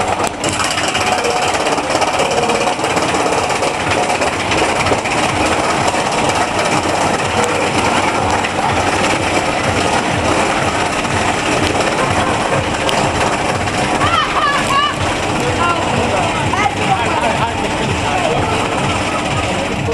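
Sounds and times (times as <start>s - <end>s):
roller coaster wheels rolling: 0.0s - 19.9s.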